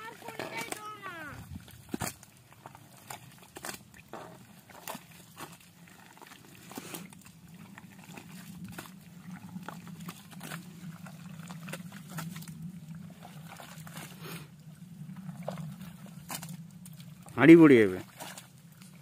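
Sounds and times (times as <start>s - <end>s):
hands squelching in wet mud: 0.0s - 19.0s.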